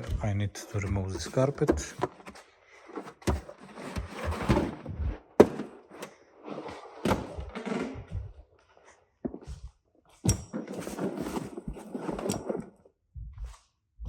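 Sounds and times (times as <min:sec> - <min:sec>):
carpet rustling and scraping: 0:00.0 - 0:12.9.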